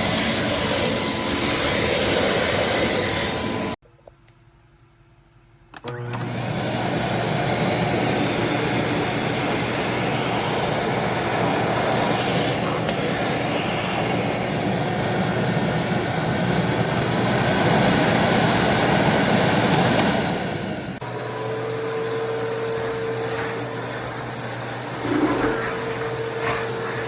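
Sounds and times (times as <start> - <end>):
vacuum cleaner running: 0.0 - 3.8, 5.8 - 27.0.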